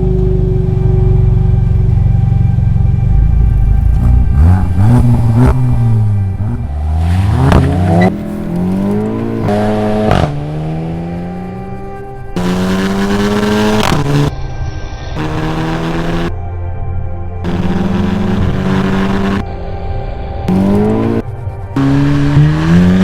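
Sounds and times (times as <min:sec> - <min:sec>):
car engine revving: 0:00.0 - 0:14.3, 0:15.2 - 0:16.3, 0:17.4 - 0:19.4, 0:20.5 - 0:23.0.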